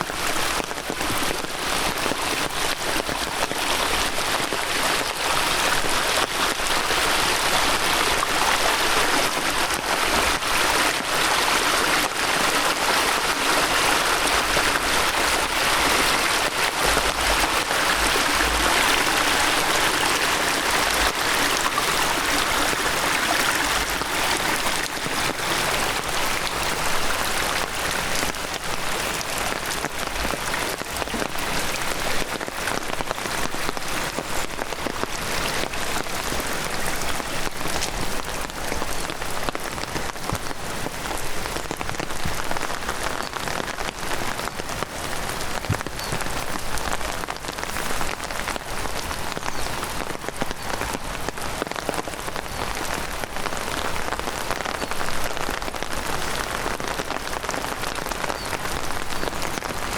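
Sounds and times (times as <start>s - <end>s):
heavy rain hiss: 0.0s - 59.9s
rushing stream: 0.0s - 59.9s.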